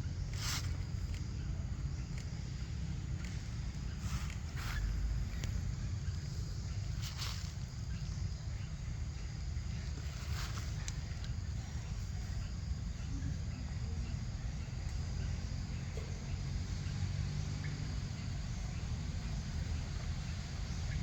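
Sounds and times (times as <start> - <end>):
high insect chirping: 0.0 - 21.0
steady low rumble: 0.0 - 21.0.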